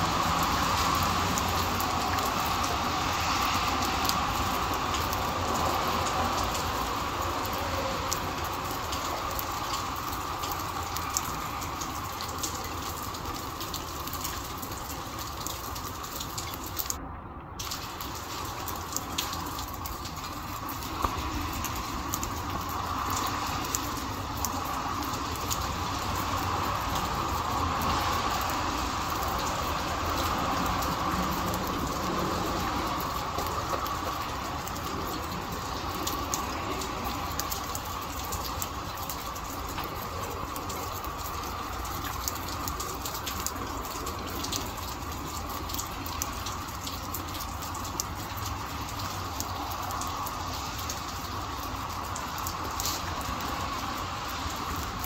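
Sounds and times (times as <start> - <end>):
raindrops ticking close by: 0.0 - 55.0
steady rain: 0.0 - 55.0.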